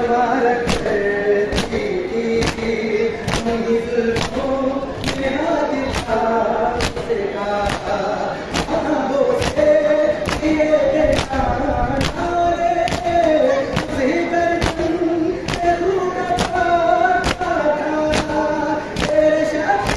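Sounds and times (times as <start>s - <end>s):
men chanting a lament: 0.0s - 19.9s.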